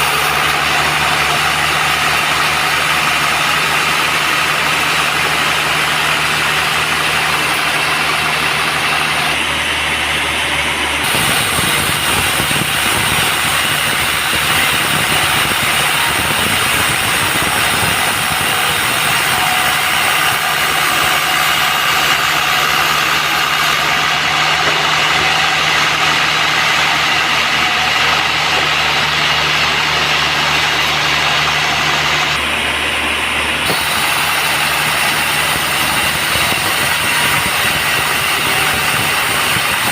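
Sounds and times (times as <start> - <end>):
band sawmill droning: 0.0 - 39.9.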